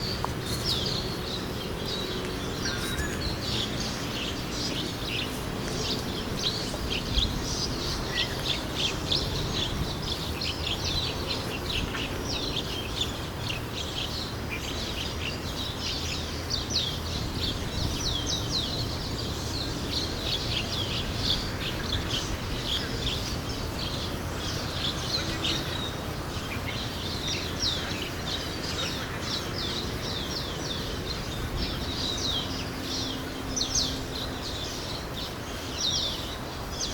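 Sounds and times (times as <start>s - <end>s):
flock of birds chirping: 0.0s - 36.9s.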